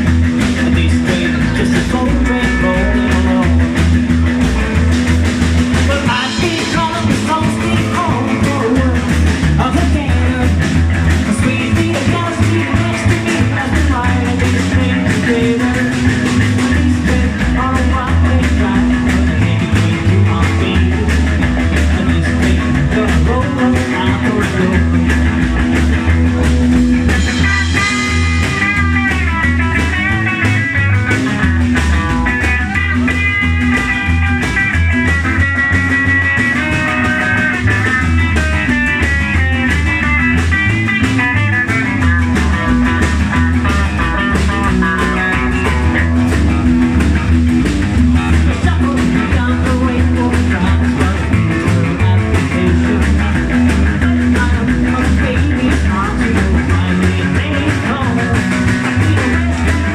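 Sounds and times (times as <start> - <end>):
lead guitar line: 0.0 - 59.9
rock band playing: 0.0 - 59.9.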